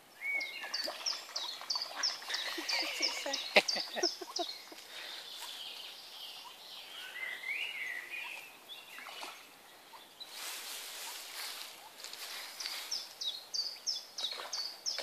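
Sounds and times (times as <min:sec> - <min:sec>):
small bird singing faintly: 0:00.0 - 0:15.0.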